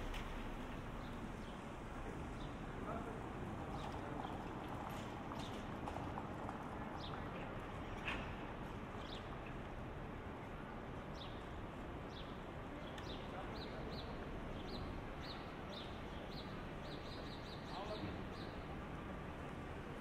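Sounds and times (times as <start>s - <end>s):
city street noise hum: 0.0s - 20.0s.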